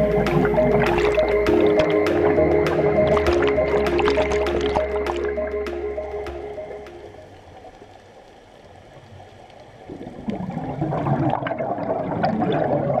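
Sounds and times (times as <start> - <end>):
water bubbling and gurgling: 0.0 - 13.0.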